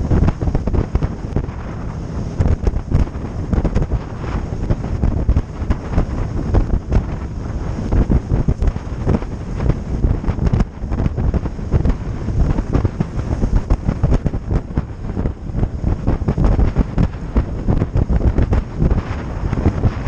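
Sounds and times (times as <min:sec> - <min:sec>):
boat running through water: 0:00.0 - 0:20.0
wind buffeting microphone: 0:00.0 - 0:20.0.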